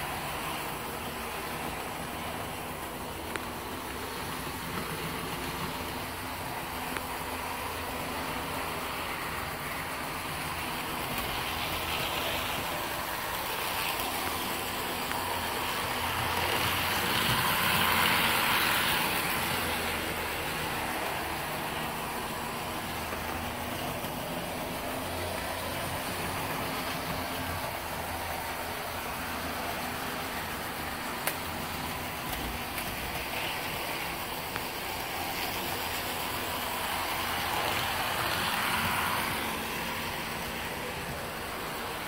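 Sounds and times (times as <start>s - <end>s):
model train motors whirring: 0.0s - 42.0s.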